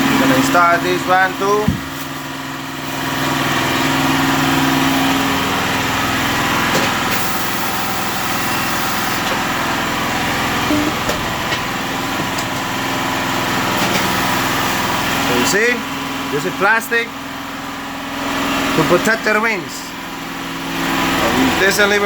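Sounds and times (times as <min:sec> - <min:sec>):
tire machine humming: 0:00.0 - 0:22.0.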